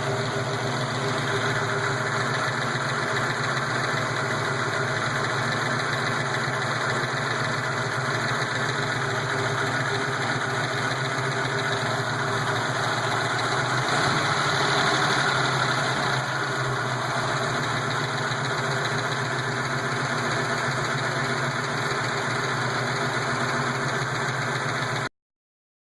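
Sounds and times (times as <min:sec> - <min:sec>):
engine idling with lifter tick: 0:00.0 - 0:25.1.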